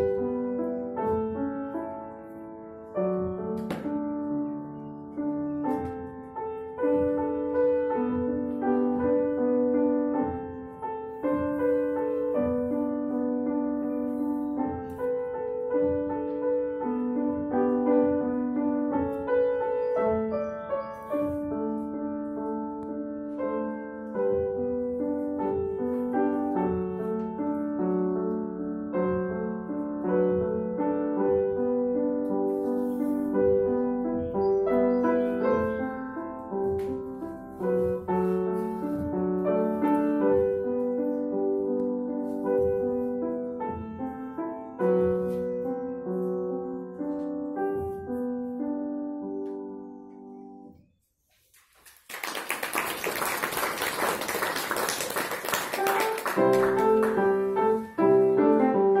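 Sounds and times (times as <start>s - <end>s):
grand piano playing: 0.0s - 50.8s, 52.3s - 59.0s.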